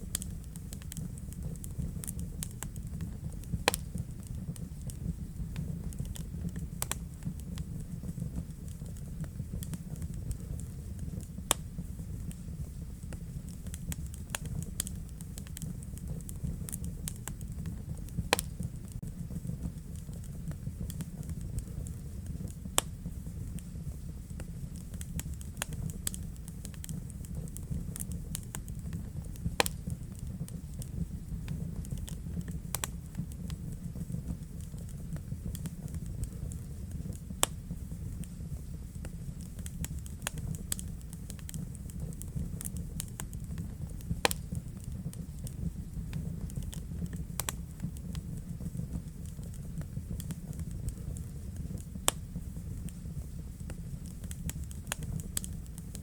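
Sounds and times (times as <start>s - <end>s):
fire crackles and pops: 0.0s - 56.0s
low rush of flame: 0.0s - 56.0s.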